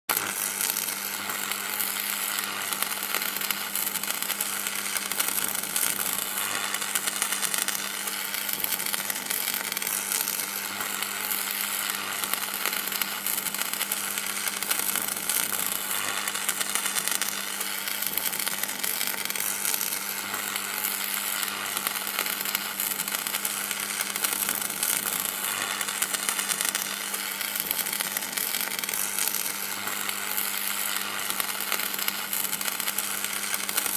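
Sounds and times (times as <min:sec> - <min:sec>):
electrical sizzling crackle: 0:00.1 - 0:33.9.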